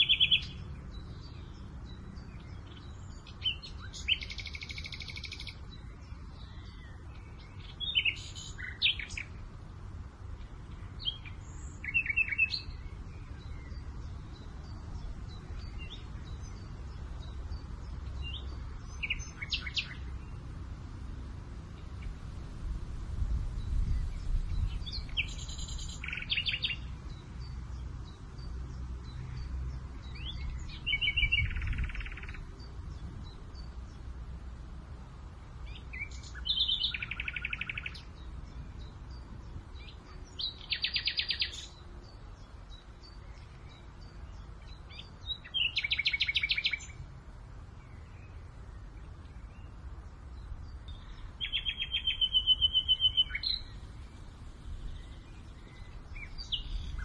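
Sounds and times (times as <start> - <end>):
low wind rumble: 0.0 - 57.0
songbirds singing trilled phrases: 0.0 - 57.0.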